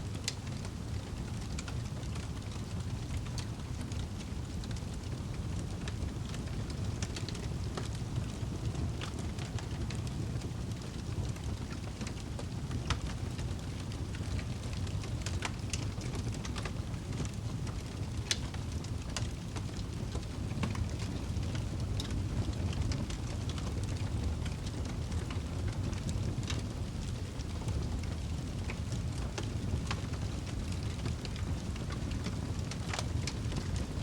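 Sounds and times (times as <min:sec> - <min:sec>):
burning wood crackling and popping: 0:00.0 - 0:34.0
fire rushing in fireplace: 0:00.0 - 0:34.0.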